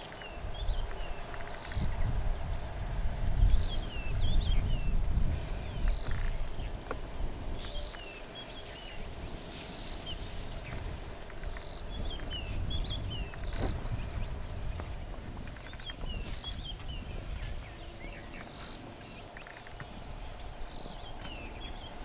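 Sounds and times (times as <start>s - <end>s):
birds chirping and whistling: 0.0s - 22.0s.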